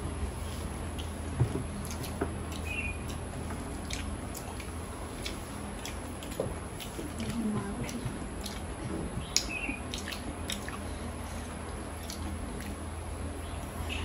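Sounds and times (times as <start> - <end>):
chewing: 0.9 - 12.9.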